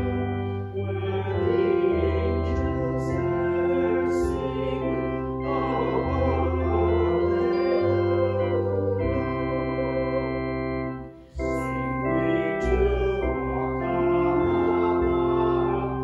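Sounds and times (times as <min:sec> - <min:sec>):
church organ playing chords: 0:00.0 - 0:16.0.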